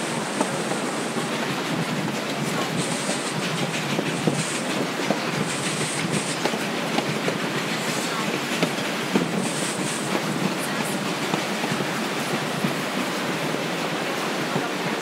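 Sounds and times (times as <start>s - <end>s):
rushing rumble of train cars: 0.0s - 15.0s
train wheels clicking on rail joints: 0.0s - 15.0s.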